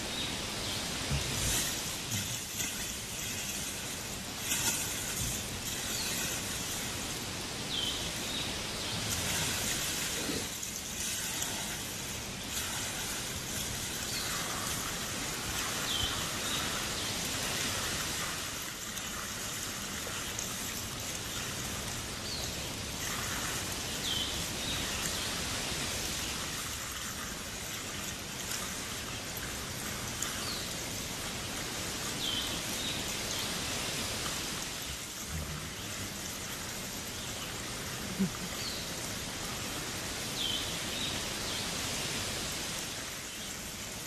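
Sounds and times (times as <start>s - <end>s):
water splashing onto dirt: 0.4s - 41.2s.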